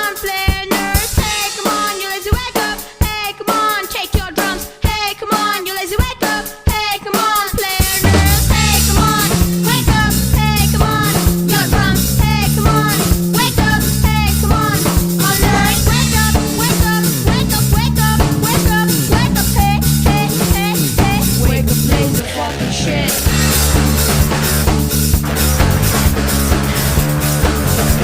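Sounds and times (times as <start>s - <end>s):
song with drum beat: 0.0s - 28.0s.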